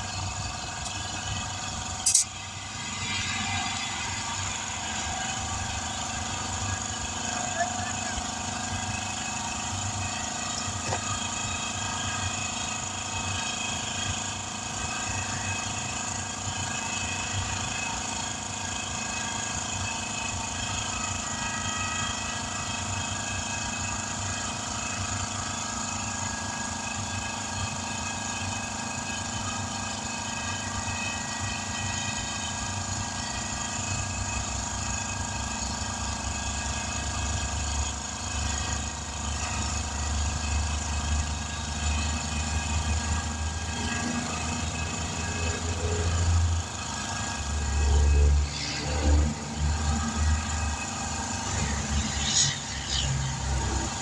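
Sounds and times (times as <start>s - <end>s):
motor-driven machine humming: 0.0s - 54.0s.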